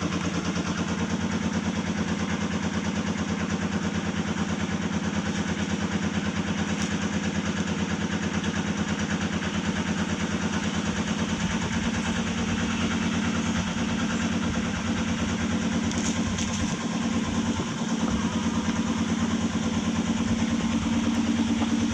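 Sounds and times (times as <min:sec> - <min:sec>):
small engine idling: 0:00.0 - 0:21.9.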